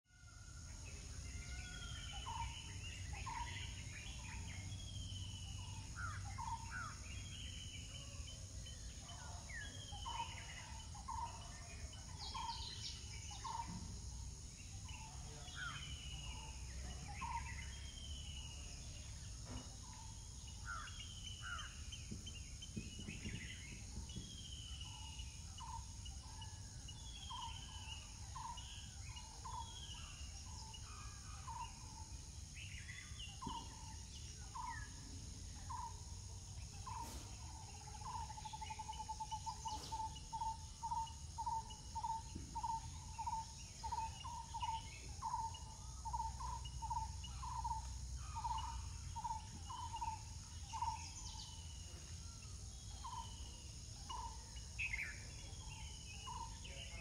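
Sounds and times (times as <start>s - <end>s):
low background noise: 0.1s - 57.0s
birds chirping: 1.0s - 57.0s.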